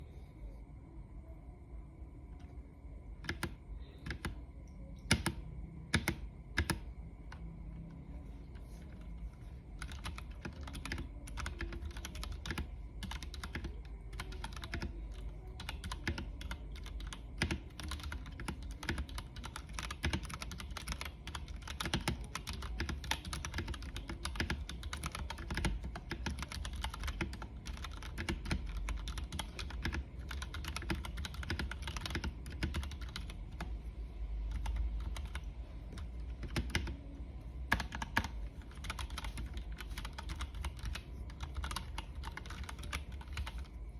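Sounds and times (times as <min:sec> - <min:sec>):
mechanical keyboard typing: 0:03.2 - 0:04.4, 0:05.0 - 0:07.5, 0:08.7 - 0:33.8, 0:34.4 - 0:43.9.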